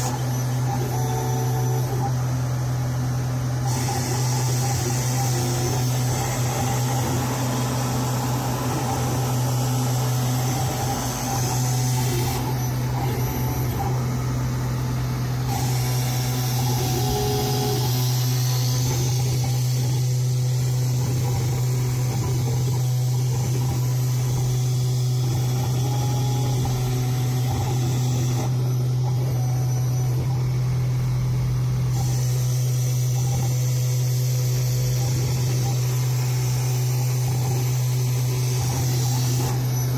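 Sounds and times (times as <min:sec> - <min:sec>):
faint high machine tones: 0:00.0 - 0:39.9
spindle motor humming: 0:00.0 - 0:39.9.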